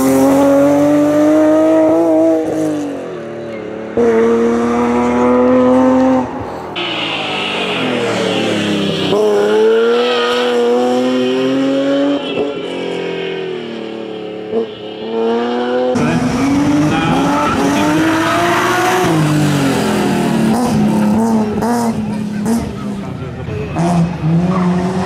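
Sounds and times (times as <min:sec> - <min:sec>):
car engine revving hard: 0:00.0 - 0:03.0, 0:03.9 - 0:25.0.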